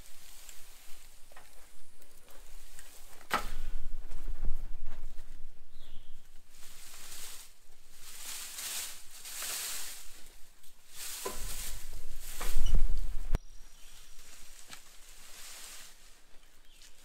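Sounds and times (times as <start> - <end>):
branches crackling and snapping: 0.0 - 4.2, 6.1 - 17.0
dry branches rustling and scraping: 0.0 - 17.0
footsteps: 0.0 - 17.0.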